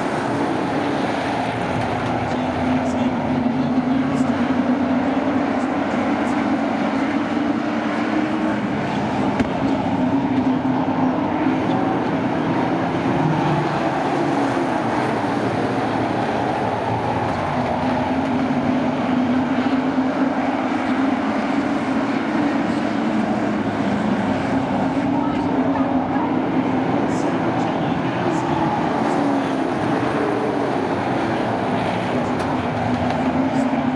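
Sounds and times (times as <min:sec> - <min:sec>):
racing truck engines droning: 0:00.0 - 0:33.9.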